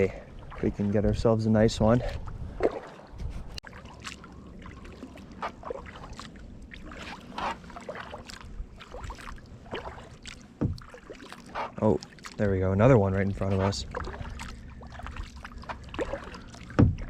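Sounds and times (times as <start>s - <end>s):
water lapping around a kayak: 0.0s - 17.0s
small splashes against hull: 0.1s - 17.0s.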